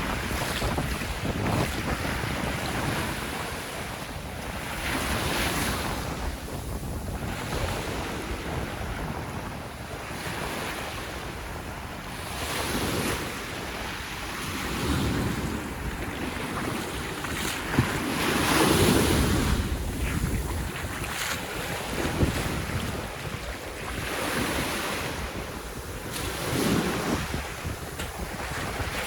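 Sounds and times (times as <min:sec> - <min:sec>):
waves breaking on beach: 0:00.0 - 0:29.0
wind buffeting microphone: 0:00.0 - 0:29.0.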